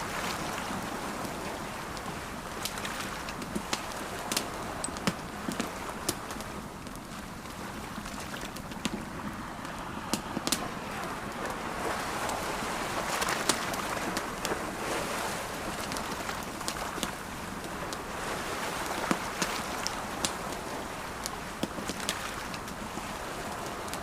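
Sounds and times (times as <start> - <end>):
campfire crackling and popping: 0.0 - 24.0
ocean waves: 0.0 - 24.0.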